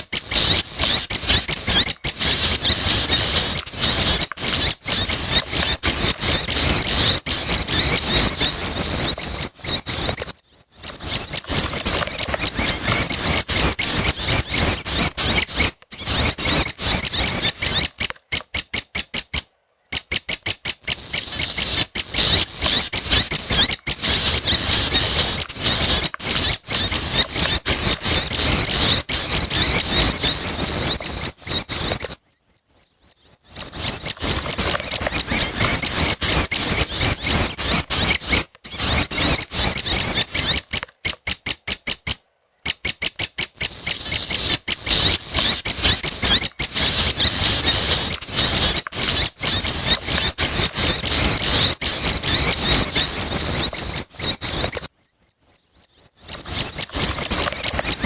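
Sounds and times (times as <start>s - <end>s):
young bird begging calls: 0.0s - 32.2s, 33.1s - 54.9s, 56.1s - 58.0s.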